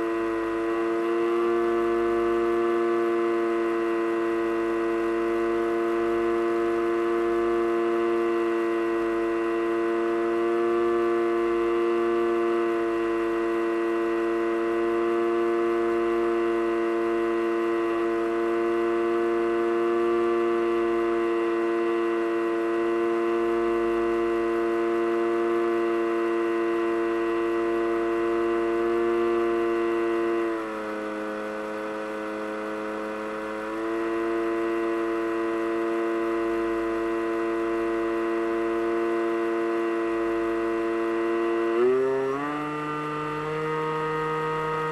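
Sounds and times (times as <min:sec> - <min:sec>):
model aircraft motor whine: 0:00.0 - 0:44.9.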